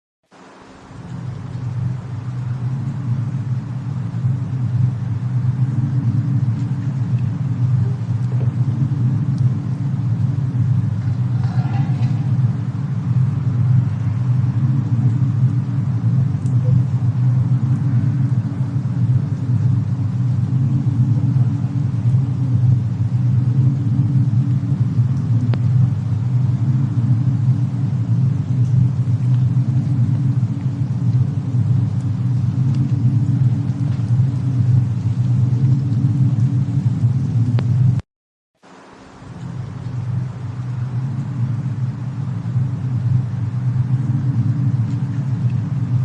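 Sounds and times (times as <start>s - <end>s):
faint fire crackles: 0.3s - 38.0s, 38.6s - 46.0s
low rumble: 0.4s - 38.0s, 39.1s - 46.0s.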